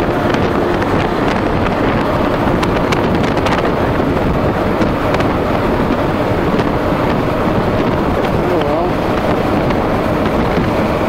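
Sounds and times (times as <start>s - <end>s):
motorcycle engine running: 0.0s - 11.0s
wind rush buffeting microphone: 0.0s - 11.0s.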